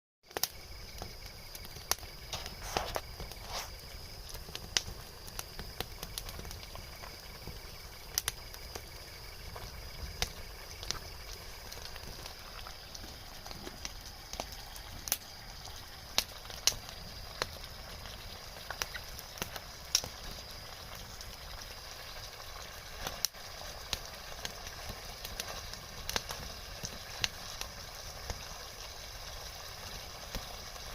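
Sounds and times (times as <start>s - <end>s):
campfire crackling and popping: 0.3s - 30.9s.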